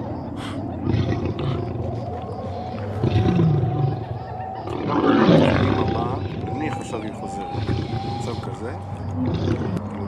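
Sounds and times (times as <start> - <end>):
lion growling: 0.0 - 10.0.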